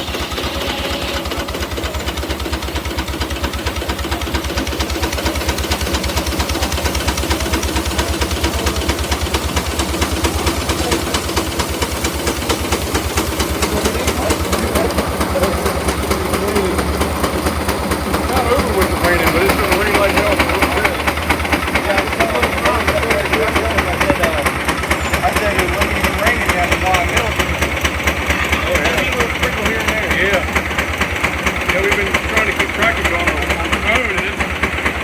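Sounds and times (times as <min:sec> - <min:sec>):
engine running at rapid beat: 0:00.0 - 0:35.0.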